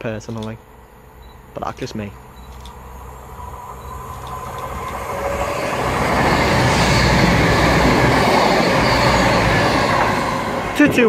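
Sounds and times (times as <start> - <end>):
diesel train passing at speed: 0.7 - 11.0.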